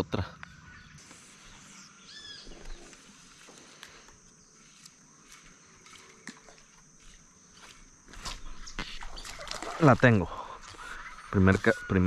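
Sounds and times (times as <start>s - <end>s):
high-pitched insect drone: 1.0s - 12.0s.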